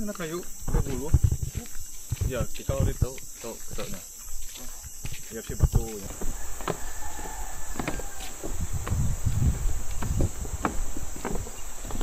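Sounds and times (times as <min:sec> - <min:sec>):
footsteps on wooden deck: 0:00.0 - 0:12.0
insects droning: 0:00.0 - 0:12.0.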